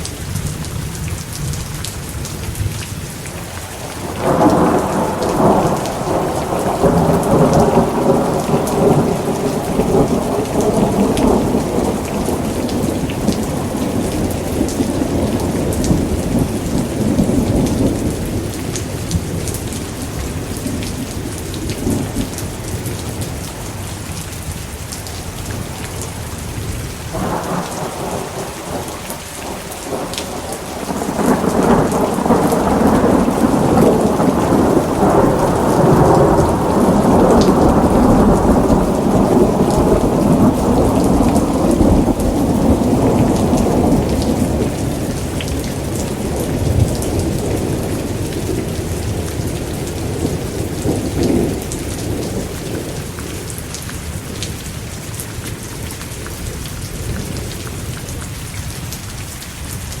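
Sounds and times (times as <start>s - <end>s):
heavy rain: 0.0s - 60.0s
raindrops pattering on a surface: 0.0s - 60.0s
thunder rumbling: 3.8s - 23.8s, 25.6s - 54.6s.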